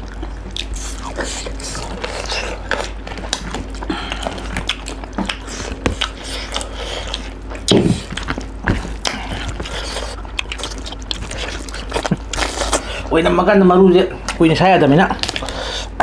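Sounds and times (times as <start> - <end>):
chewing and lip-smacking: 0.0 - 13.1, 15.1 - 16.0.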